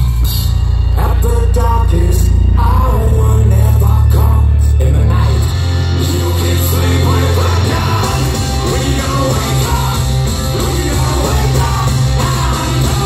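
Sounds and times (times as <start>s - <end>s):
hard rock band playing live: 0.0s - 13.0s
lead vocal singing: 0.9s - 13.0s.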